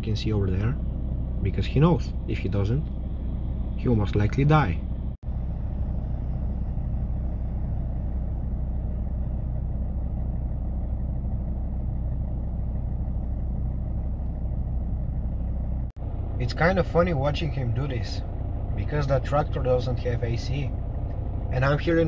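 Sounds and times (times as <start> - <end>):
car engine hum inside cabin: 0.0 - 22.0.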